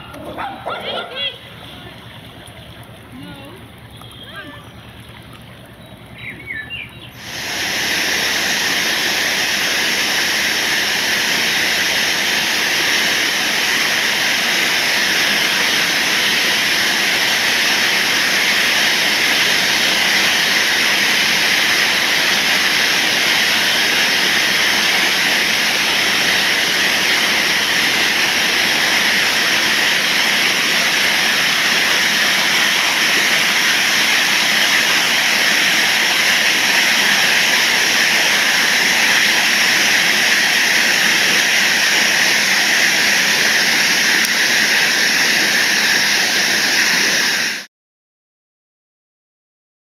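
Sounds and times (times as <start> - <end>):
water rushing over weir: 0.0 - 47.7.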